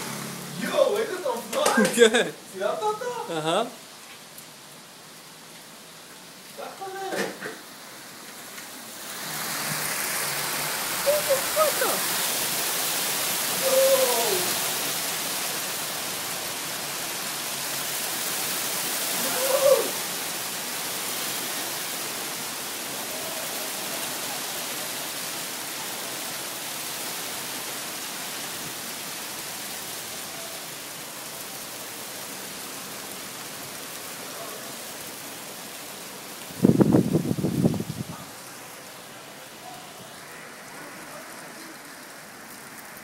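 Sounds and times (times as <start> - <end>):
heavy rain with hail: 0.0 - 43.0.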